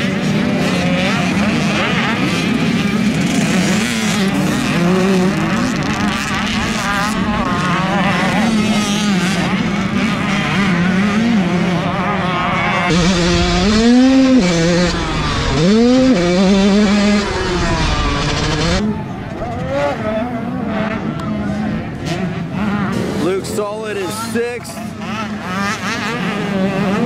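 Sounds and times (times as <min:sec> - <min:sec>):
motocross bikes racing: 0:00.0 - 0:27.0
motorbike engine revving close up: 0:00.0 - 0:27.0.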